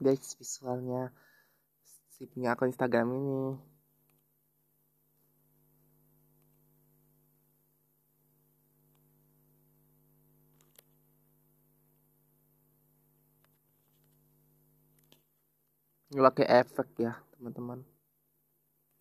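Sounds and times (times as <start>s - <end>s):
faint electrical hum: 0.0s - 19.0s.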